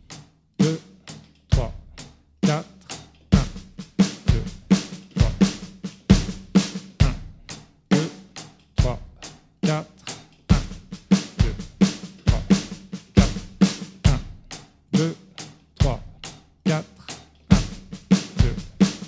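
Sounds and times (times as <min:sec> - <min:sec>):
electronic drum kit rock groove: 0:00.0 - 0:19.0.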